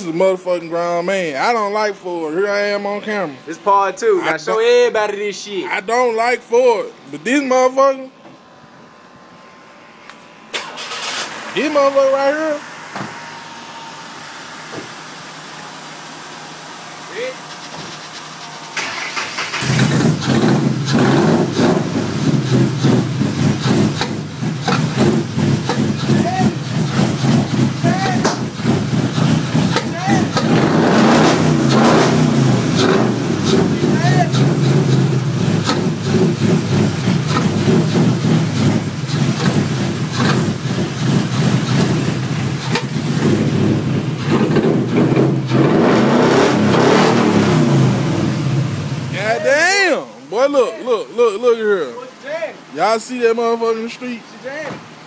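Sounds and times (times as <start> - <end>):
car engine idling unevenly: 10.3 - 55.0.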